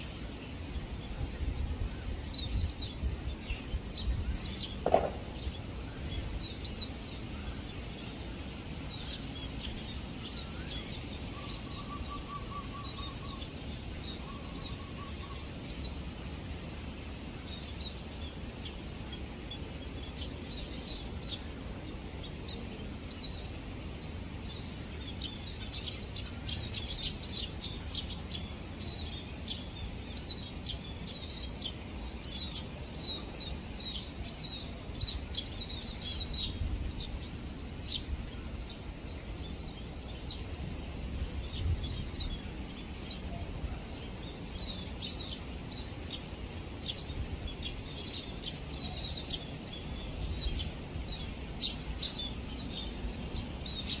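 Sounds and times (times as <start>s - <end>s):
flock of birds chirping: 0.0s - 54.0s.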